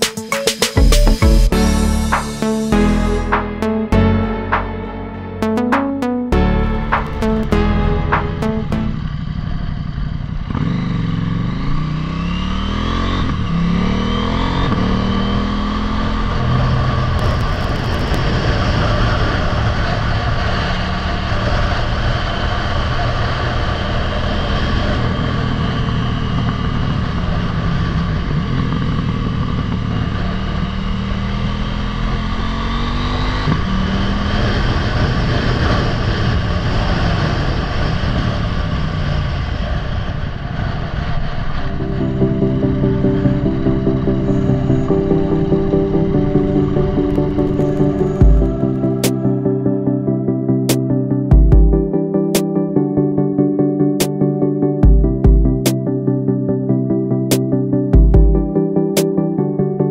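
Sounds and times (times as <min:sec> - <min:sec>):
motorcycle engine accelerating: 0:00.8 - 0:52.0.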